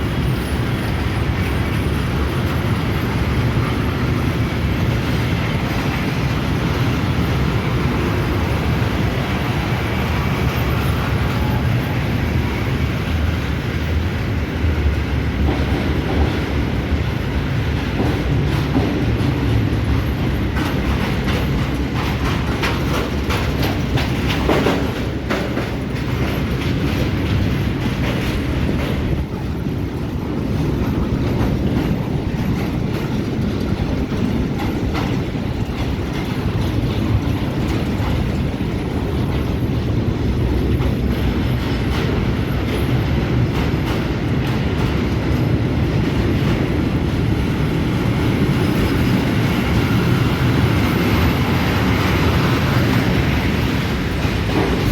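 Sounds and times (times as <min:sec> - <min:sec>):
train rumbling: 0:00.0 - 0:54.9
wheels clicking over rail joints: 0:00.0 - 0:54.9.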